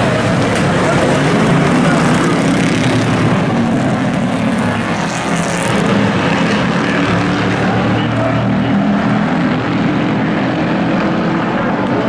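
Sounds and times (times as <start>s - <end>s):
race truck engines droning: 0.0s - 12.0s.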